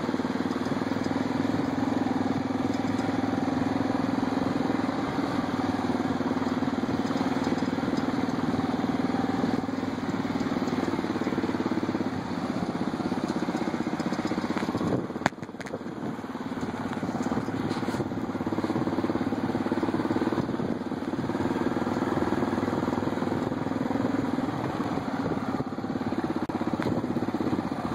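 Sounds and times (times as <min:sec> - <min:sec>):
atv engines running: 0:00.0 - 0:27.9.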